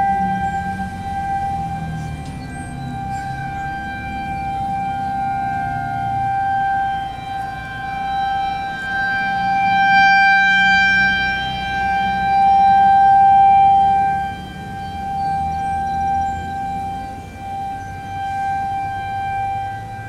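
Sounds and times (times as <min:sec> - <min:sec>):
faint distant sirens: 0:00.0 - 0:20.0
rotating warning siren: 0:00.0 - 0:20.0.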